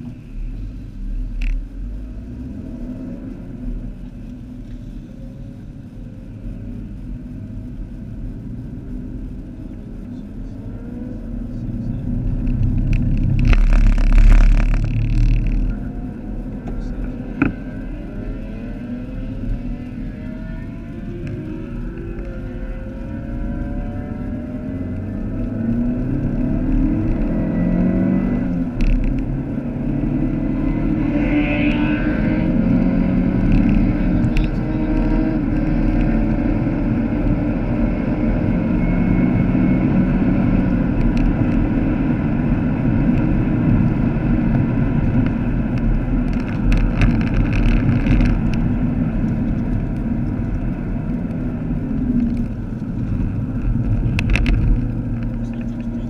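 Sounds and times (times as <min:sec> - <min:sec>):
car engine droning: 0:00.0 - 0:56.0
road and tyre noise: 0:00.0 - 0:56.0.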